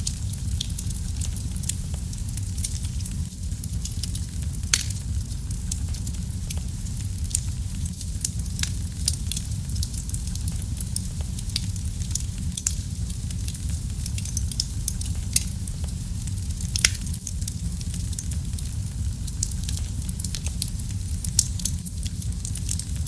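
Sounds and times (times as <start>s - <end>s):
wood fire burning in fireplace: 0.0s - 23.0s.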